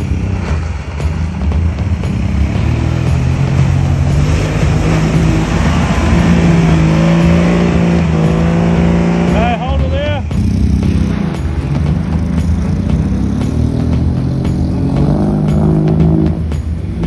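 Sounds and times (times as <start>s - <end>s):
car engine revving under load: 0.0s - 17.0s
wheels splashing in water: 0.0s - 17.0s.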